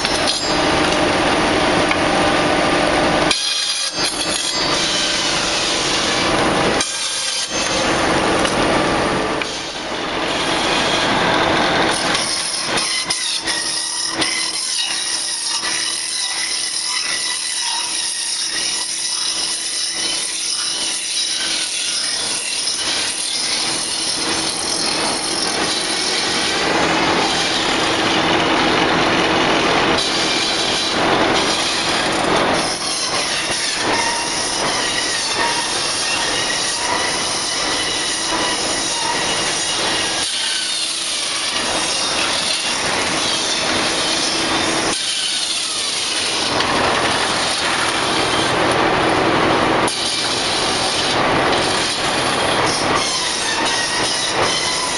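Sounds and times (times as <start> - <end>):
mill machinery whine: 0.0 - 54.9
saws cutting logs: 3.1 - 48.8, 49.8 - 54.9.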